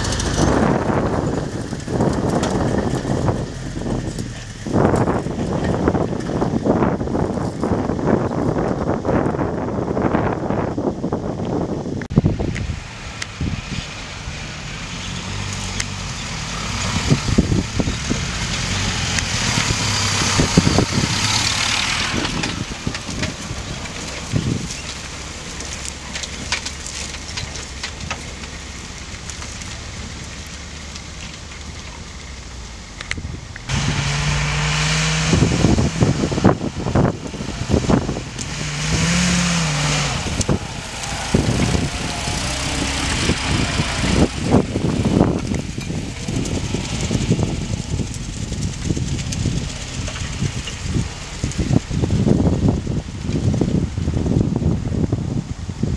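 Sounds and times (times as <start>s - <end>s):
jeep knocking and rattling: 0.0s - 10.6s, 14.6s - 55.5s
off-road vehicle engine running: 0.0s - 55.9s.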